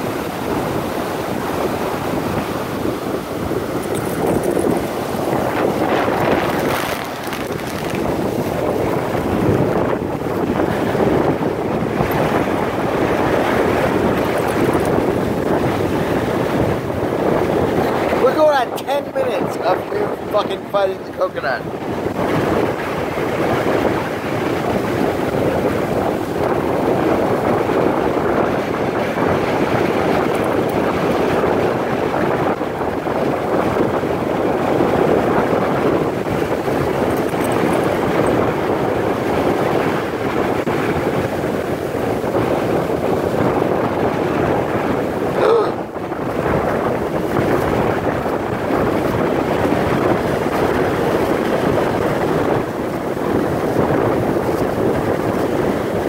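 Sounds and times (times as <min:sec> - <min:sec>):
ocean surf breaking: 0:00.0 - 0:56.0
wind noise on microphone: 0:00.0 - 0:56.0.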